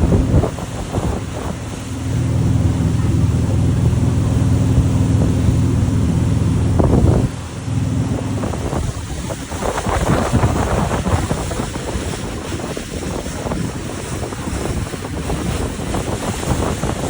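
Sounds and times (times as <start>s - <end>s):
speedboat engine drone: 0.0s - 17.0s
wind buffeting microphone: 0.0s - 17.0s.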